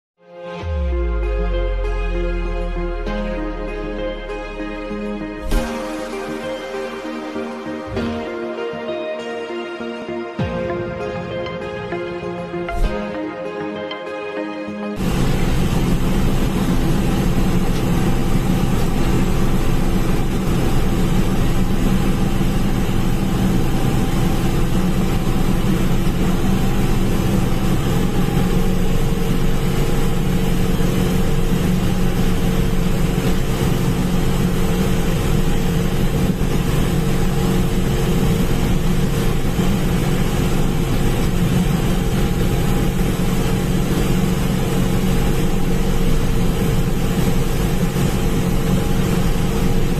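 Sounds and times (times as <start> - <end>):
harvester engine and machinery running: 0.6 - 9.1, 9.9 - 13.2, 15.0 - 49.9.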